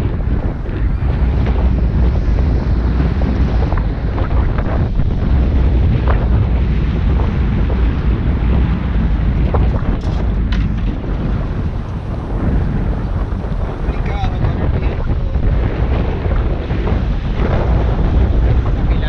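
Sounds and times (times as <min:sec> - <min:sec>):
sea water washing against rocks: 0:00.0 - 0:19.0
wind buffeting microphone: 0:00.0 - 0:19.0.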